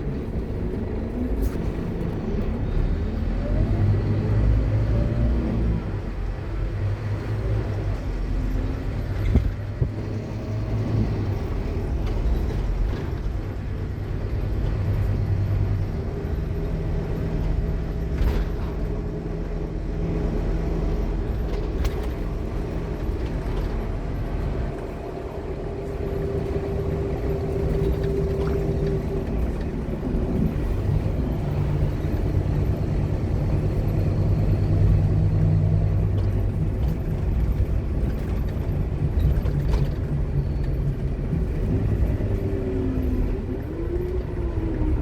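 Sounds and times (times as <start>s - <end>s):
bus engine droning: 0.0s - 45.0s.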